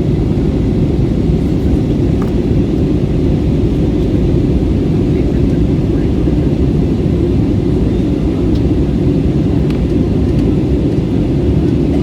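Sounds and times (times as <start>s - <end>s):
jet engines roaring in cabin: 0.0s - 12.0s.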